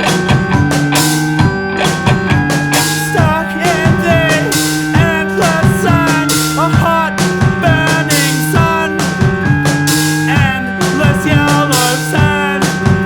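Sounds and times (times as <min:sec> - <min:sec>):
rock music with drums and guitar: 0:00.0 - 0:13.0.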